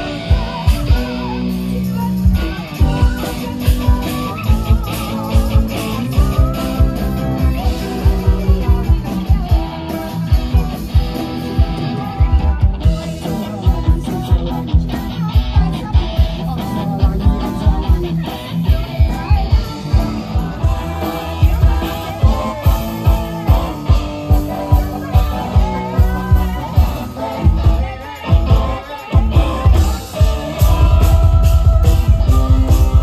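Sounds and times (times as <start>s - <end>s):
live band with guitar: 0.0s - 33.0s
steady drum beat: 0.0s - 33.0s.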